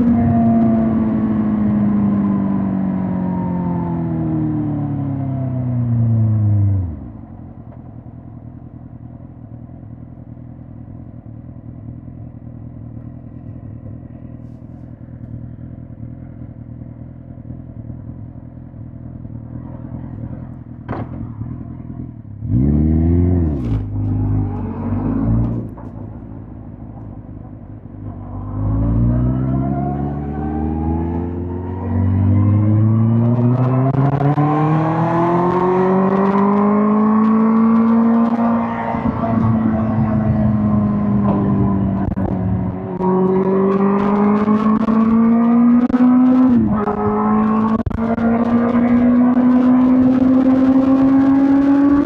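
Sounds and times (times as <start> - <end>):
motorcycle engine idling and revving: 0.0 - 52.0.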